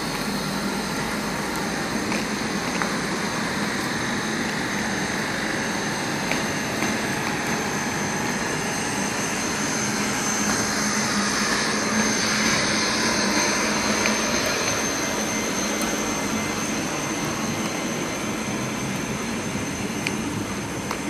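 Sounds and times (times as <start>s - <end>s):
thin high whine: 0.0s - 21.0s
train wheels on rails: 0.0s - 21.0s.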